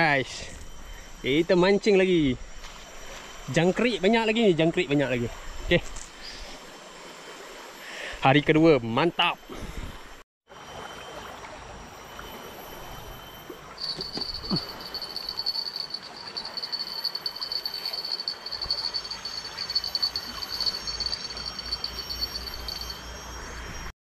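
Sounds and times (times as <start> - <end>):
high pulsing insect call: 0.0 - 23.9.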